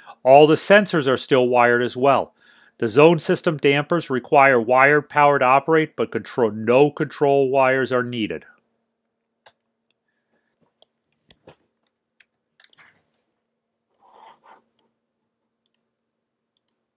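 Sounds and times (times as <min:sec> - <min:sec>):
faint steady hum: 0:00.0 - 0:16.9.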